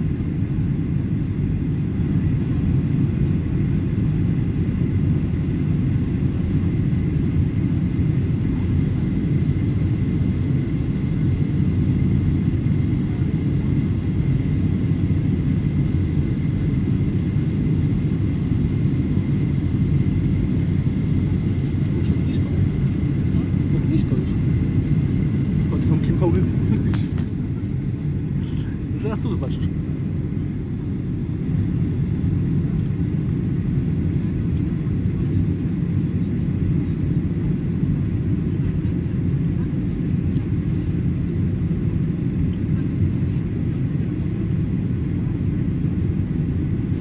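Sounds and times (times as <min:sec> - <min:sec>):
jet engine and airflow rumble: 0:00.0 - 0:47.0.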